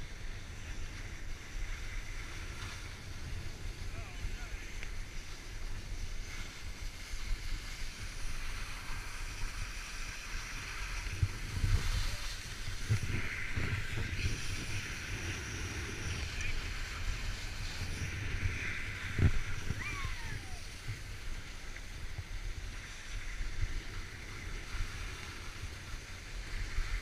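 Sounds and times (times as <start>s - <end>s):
skis sliding over snow: 0.0s - 27.0s
wind buffeting microphone: 0.0s - 27.0s.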